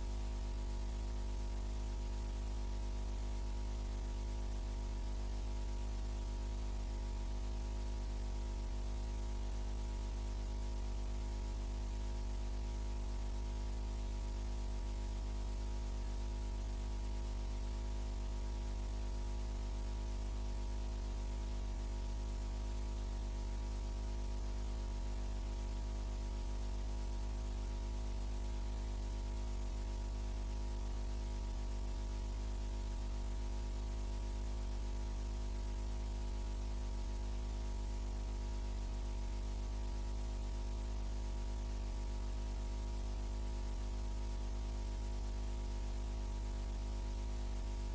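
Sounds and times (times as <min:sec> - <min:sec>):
mains hum: 0:00.0 - 0:47.9.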